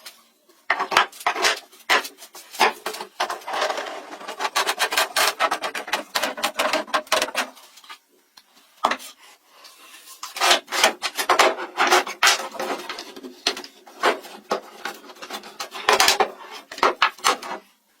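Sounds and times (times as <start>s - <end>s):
hand tool scraping on wood: 0.7s - 7.7s, 8.8s - 17.7s.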